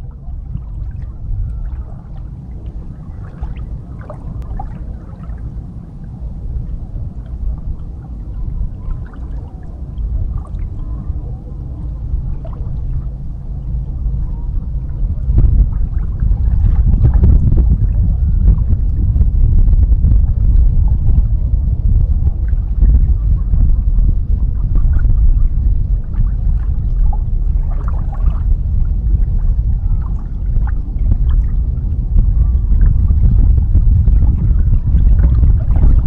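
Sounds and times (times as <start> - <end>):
small boat rumbling: 0.0 - 36.0
wind and water noise: 0.0 - 36.0.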